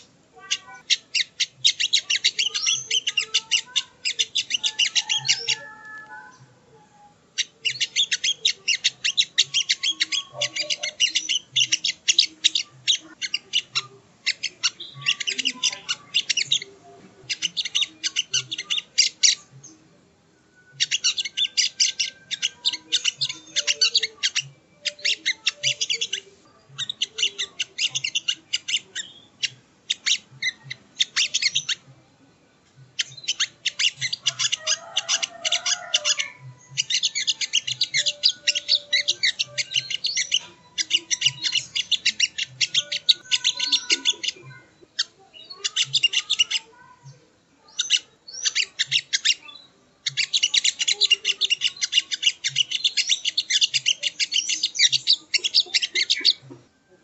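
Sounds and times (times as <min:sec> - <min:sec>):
bird chattering song: 0:00.0 - 0:06.5, 0:07.3 - 0:19.9, 0:20.6 - 0:31.9, 0:32.7 - 0:56.7.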